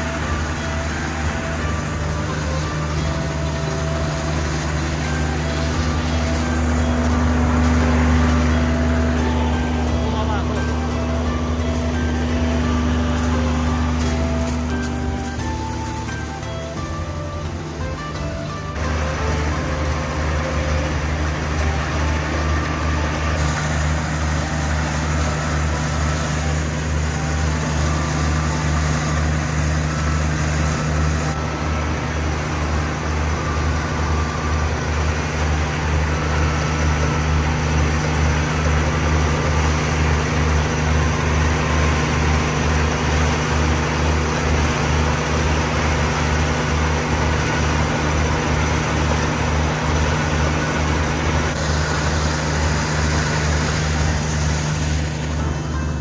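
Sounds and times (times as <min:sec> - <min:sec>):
low engine drone: 0:00.0 - 0:56.0
machinery clattering: 0:00.0 - 0:56.0.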